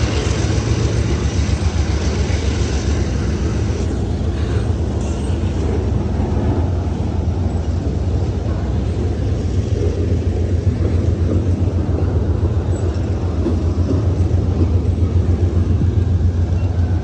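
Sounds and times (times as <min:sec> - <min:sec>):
freight train rumbling on rails: 0:00.0 - 0:17.0.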